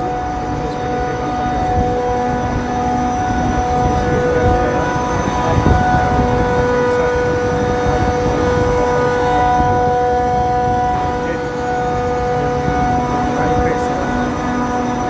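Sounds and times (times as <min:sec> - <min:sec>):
air-conditioning units humming: 0:00.0 - 0:15.0.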